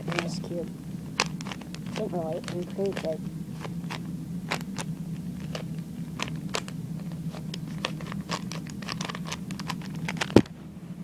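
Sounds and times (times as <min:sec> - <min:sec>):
puzzle cube plastic clicks: 0:01.2 - 0:10.5.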